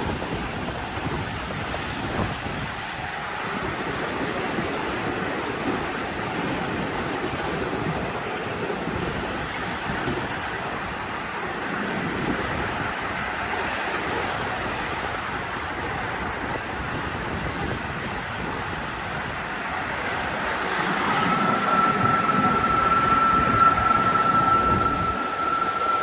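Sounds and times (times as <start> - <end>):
miniature train rumbling: 0.0 - 26.0
wind on microphone: 0.0 - 26.0.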